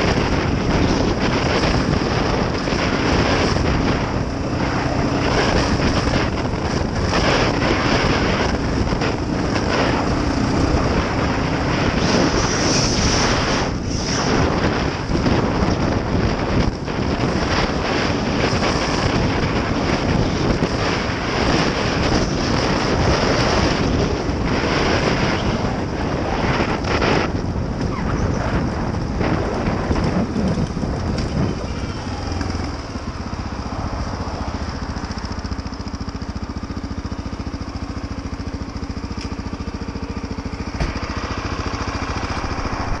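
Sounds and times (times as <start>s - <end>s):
motorcycle engine: 0.0s - 43.0s
wind noise on microphone: 0.0s - 43.0s.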